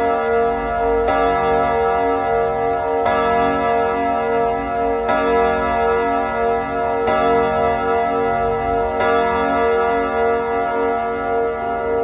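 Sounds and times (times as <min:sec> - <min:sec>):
wall clock chiming on gong rods: 0:00.0 - 0:12.0.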